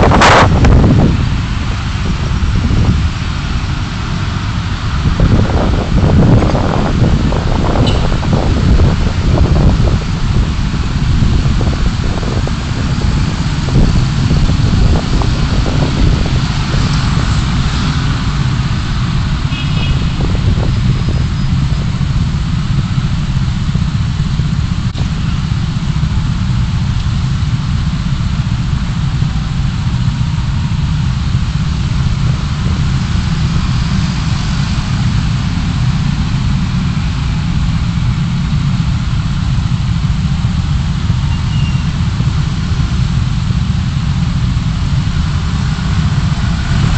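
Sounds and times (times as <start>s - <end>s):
engine and road rumble: 0.0s - 46.9s.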